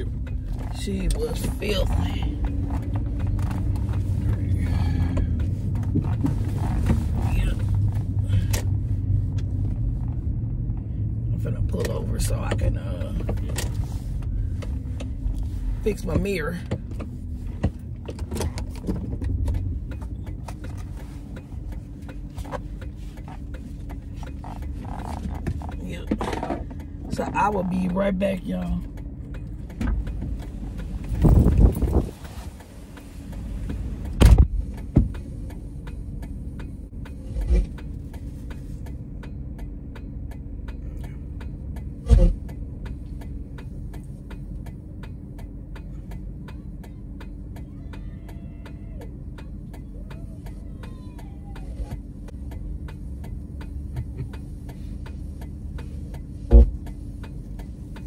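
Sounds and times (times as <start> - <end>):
truck cabin hum: 0.0 - 58.0
even ticking: 7.1 - 32.0, 32.6 - 58.0.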